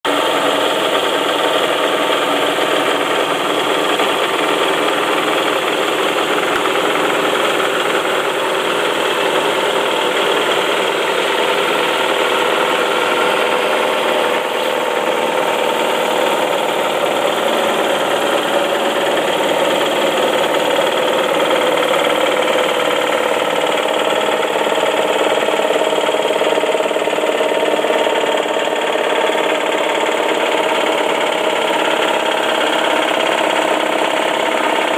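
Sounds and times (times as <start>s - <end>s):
engine knocking: 0.0s - 34.9s
car engine idling: 0.1s - 34.9s.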